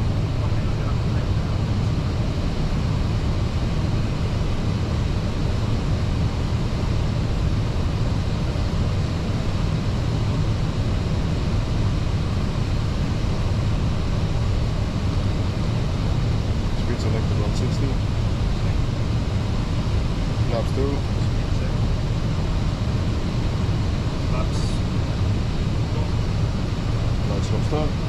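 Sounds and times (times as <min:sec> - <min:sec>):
cockpit hum: 0:00.0 - 0:28.0.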